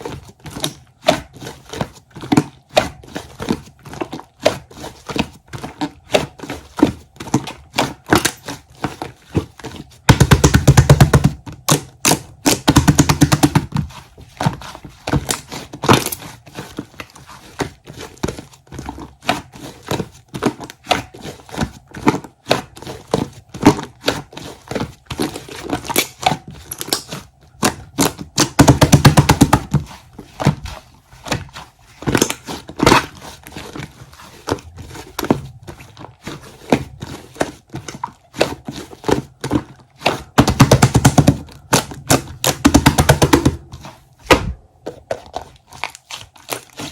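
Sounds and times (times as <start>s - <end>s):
clicking and crinkling of sticky material: 0.0s - 46.9s.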